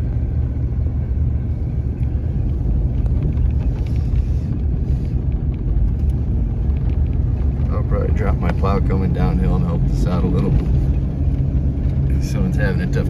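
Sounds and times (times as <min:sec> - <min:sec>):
pickup truck driving on snow: 0:00.0 - 0:13.0.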